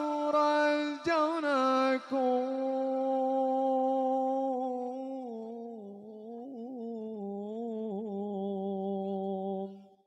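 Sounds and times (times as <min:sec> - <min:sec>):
man singing into microphone: 0:00.0 - 0:09.9.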